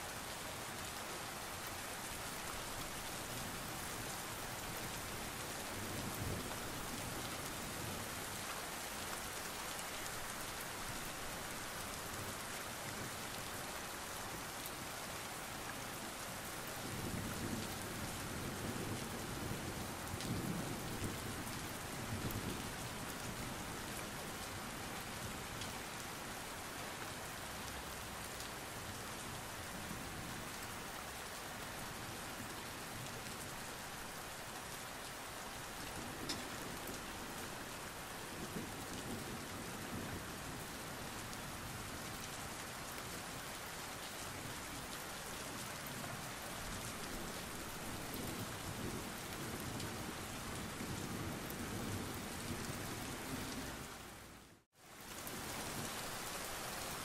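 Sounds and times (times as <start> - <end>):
rain on hard ground: 0.0 - 57.0.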